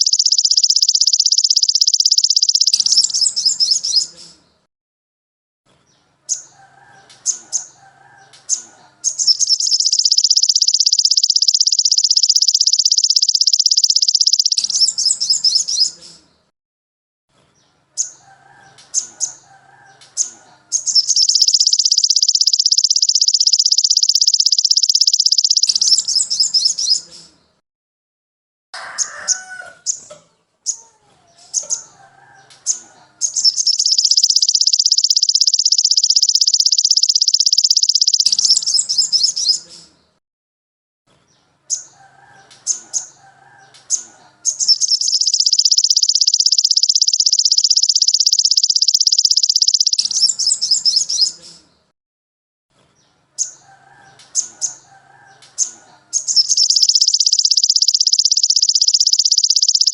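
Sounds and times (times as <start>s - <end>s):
songbird chirps and trill: 0.0s - 4.7s, 5.7s - 16.5s, 17.4s - 27.6s, 28.8s - 40.2s, 41.2s - 51.9s, 52.9s - 59.9s.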